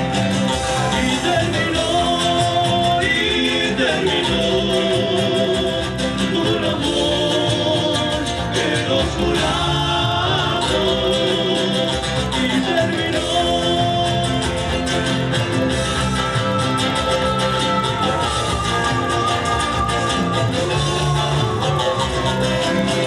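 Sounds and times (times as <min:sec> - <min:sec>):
live band singing with guitars: 0:00.0 - 0:23.0.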